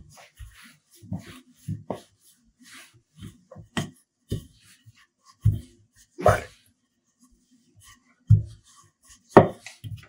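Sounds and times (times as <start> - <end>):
rolling pin rolling dough: 0.0 - 10.0.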